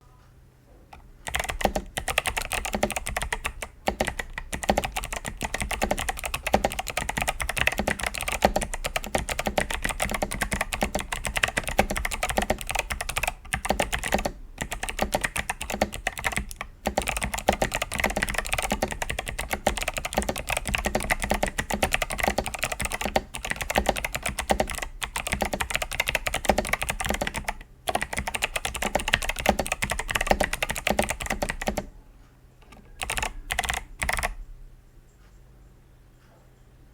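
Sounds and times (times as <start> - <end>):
fast typing on clicky keyboard: 1.0 - 31.9, 32.6 - 34.4.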